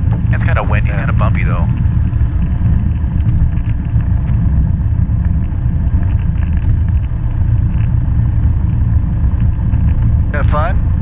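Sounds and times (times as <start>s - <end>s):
small plane engine inside cabin: 0.0s - 11.0s.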